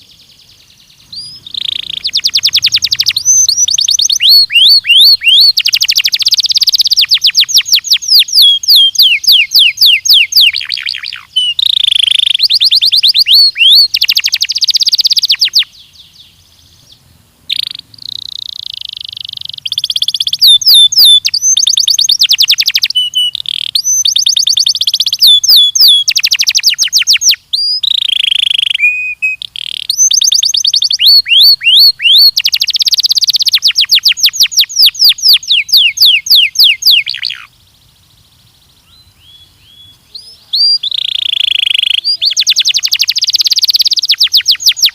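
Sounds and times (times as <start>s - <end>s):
canary singing trills: 0.0s - 44.9s.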